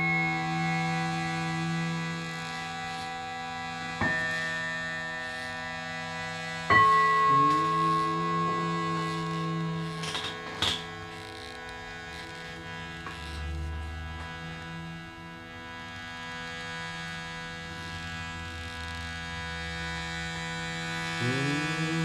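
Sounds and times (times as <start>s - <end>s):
shruti box droning: 0.0s - 22.0s.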